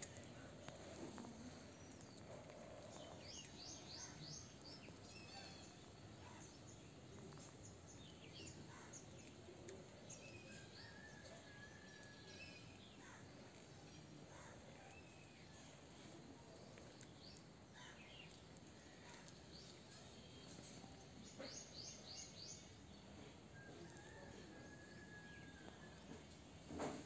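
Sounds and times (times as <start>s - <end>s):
faint birds chirping: 0.0s - 27.0s
low outdoor background hiss: 0.0s - 27.0s.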